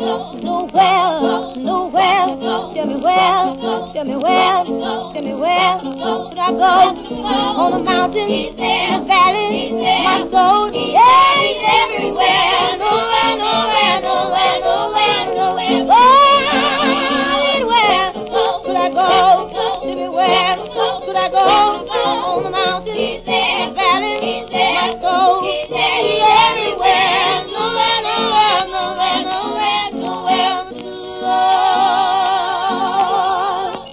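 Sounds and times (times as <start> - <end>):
beating musical accompaniment: 0.0 - 33.9
gospel singers with vibrato: 0.0 - 33.9.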